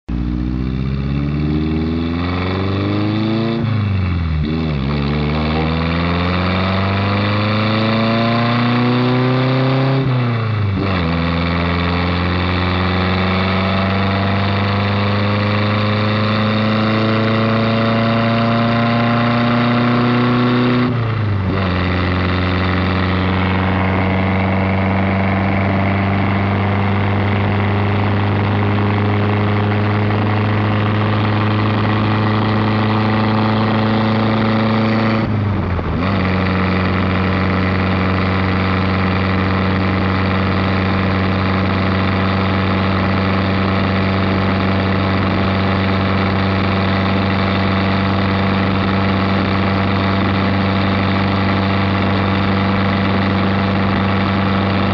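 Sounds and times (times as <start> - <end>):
car engine accelerating through gears: 0.1 - 54.9.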